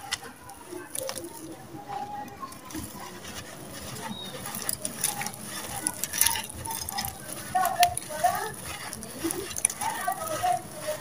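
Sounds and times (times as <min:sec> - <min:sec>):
dirt crumbling and pattering: 0:00.0 - 0:11.0.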